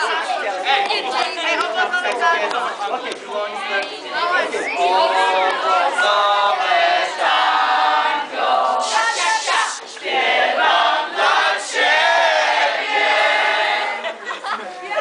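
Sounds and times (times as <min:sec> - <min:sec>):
crowd of young voices singing: 0:02.8 - 0:15.0.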